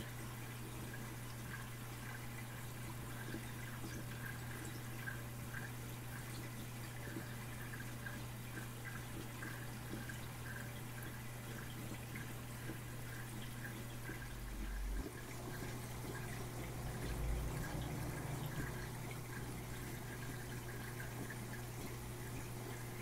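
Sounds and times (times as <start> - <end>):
low pump hum: 0.0 - 23.0
water dripping and trickling: 0.0 - 23.0.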